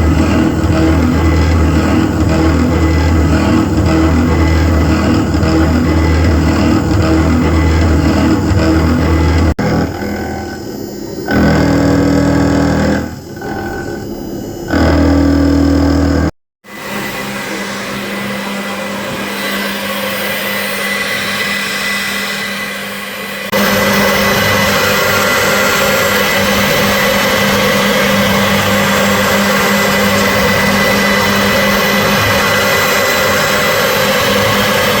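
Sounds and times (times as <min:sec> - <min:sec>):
machine motor humming: 0:00.0 - 0:35.0.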